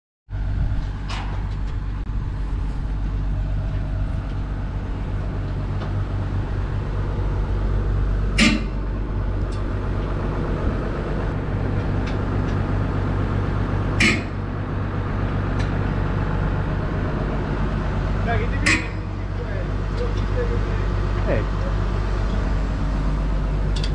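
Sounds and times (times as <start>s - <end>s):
excavator diesel engine running: 0.3s - 23.9s.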